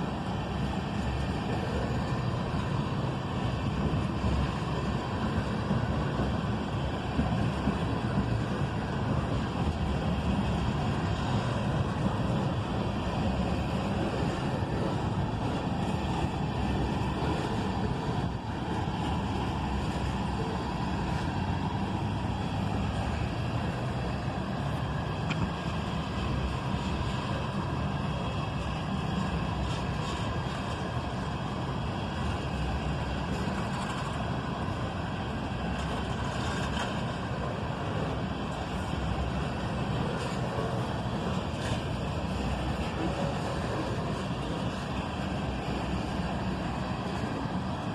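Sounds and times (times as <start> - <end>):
freight train wheels rumbling on rails: 0.0 - 47.9.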